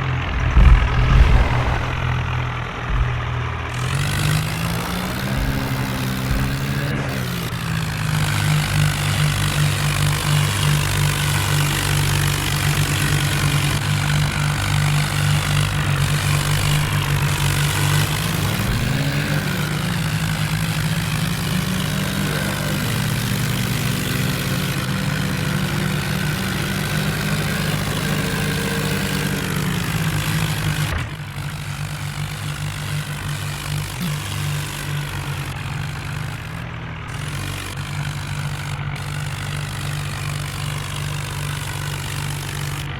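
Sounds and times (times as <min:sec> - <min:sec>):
tractor engine revving: 0:00.0 - 0:42.9.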